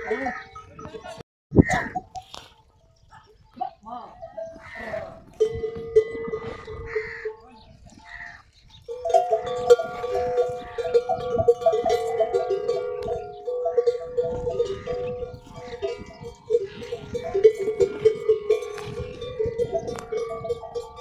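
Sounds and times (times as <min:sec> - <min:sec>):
camel bells clanking: 0:00.0 - 0:01.2, 0:01.8 - 0:21.0.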